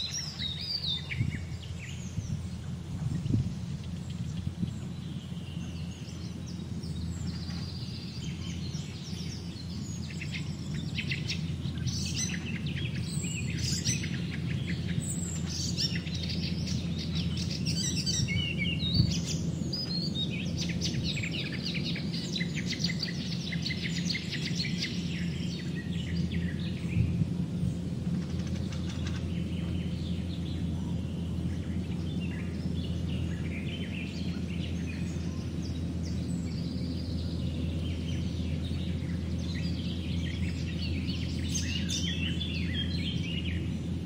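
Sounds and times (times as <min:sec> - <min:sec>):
bird chirping and trilling: 0:00.0 - 0:44.0
low background rumble: 0:00.0 - 0:44.0.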